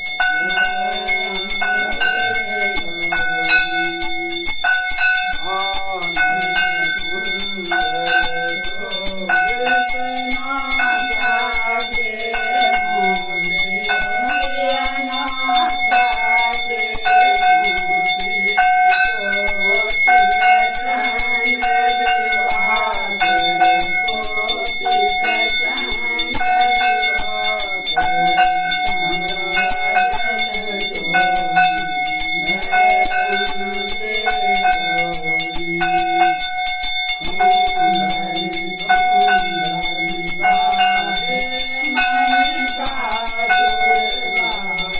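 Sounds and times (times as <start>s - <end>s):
brass hand bell ringing: 0.0s - 44.9s
devotional song: 0.0s - 44.9s.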